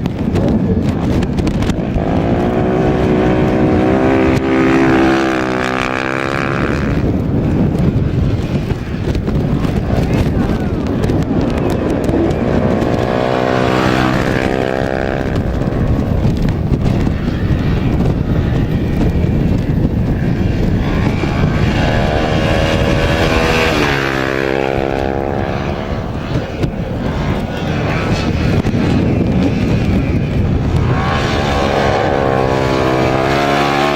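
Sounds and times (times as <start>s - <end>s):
constant rushing noise: 0.0s - 33.9s
motorcycle engines passing at speed: 0.0s - 33.9s.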